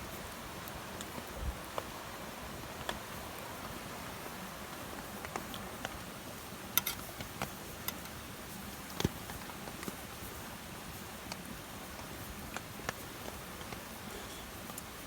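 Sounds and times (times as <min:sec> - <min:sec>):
light rain: 0:00.0 - 0:15.0.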